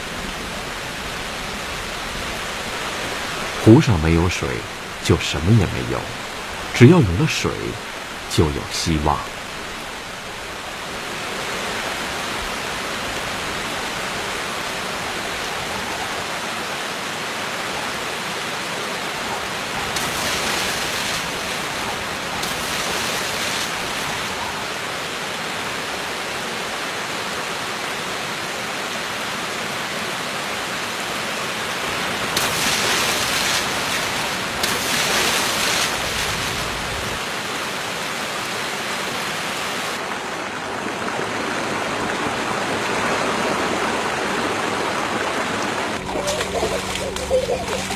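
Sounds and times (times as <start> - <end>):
heavy rain falling on water: 0.0 - 47.9.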